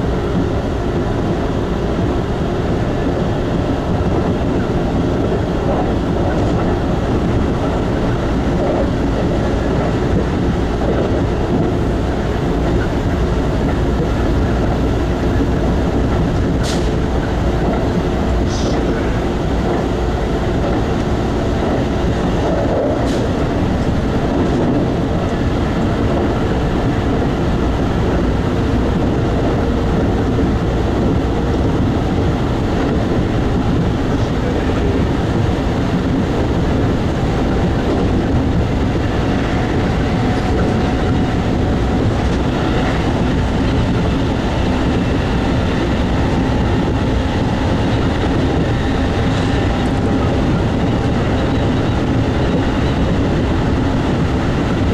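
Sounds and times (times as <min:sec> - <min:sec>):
train wheels running on rail: 0:00.0 - 0:54.9.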